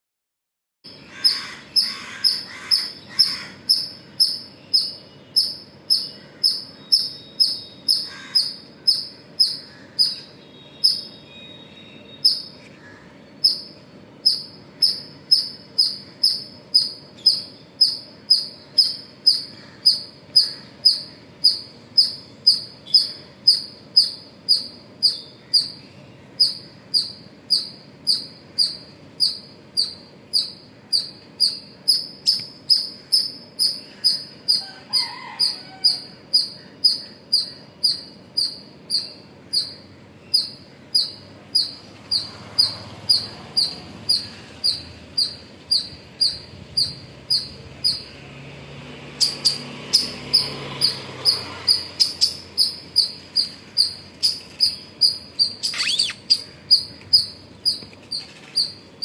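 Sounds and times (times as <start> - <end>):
squirrel chirping: 0.9 - 48.4, 49.0 - 59.0.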